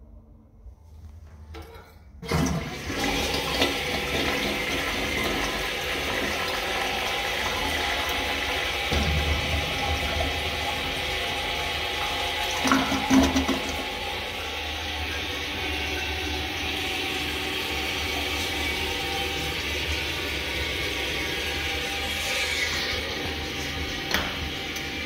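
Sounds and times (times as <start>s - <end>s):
toilet flushing water rushing: 2.2s - 25.0s.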